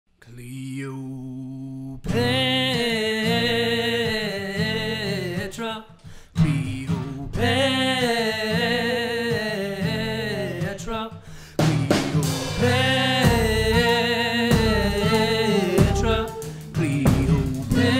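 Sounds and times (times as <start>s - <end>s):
man singing: 0.2s - 17.9s
acoustic guitar: 1.0s - 17.9s.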